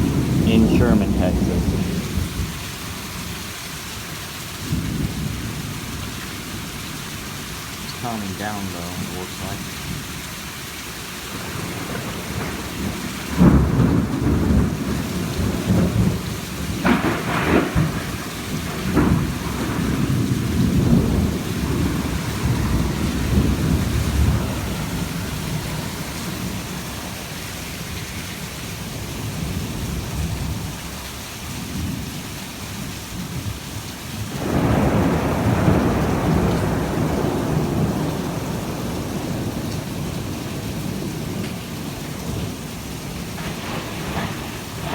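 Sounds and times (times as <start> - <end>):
thunder rumbling and cracking: 0.0 - 3.6, 4.5 - 10.4, 11.0 - 44.9
heavy rain falling: 0.0 - 44.9.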